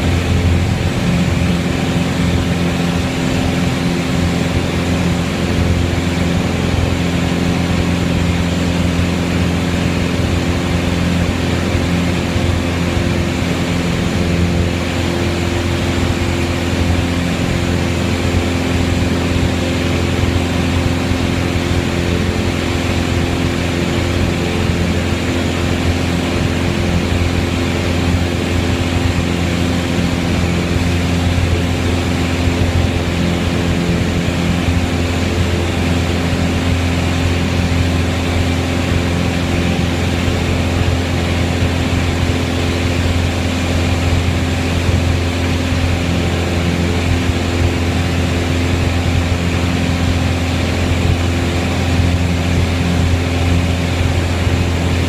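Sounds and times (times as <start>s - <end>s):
aircraft engine and propeller drone: 0.0s - 55.0s.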